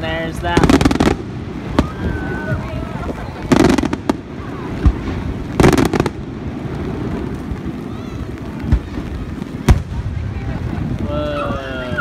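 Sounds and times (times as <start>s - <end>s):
firework booms: 0.0s - 12.0s
firework crackling: 0.0s - 12.0s.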